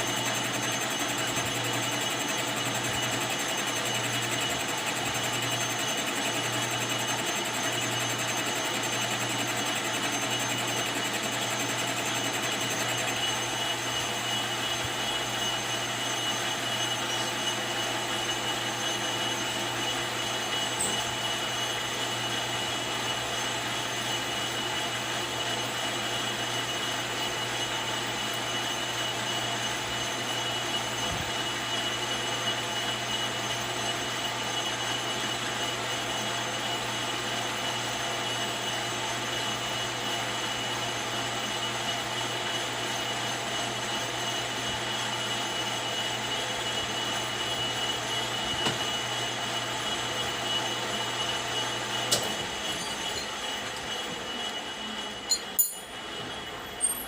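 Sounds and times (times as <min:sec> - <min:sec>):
lathe machine running: 0:00.0 - 0:57.0.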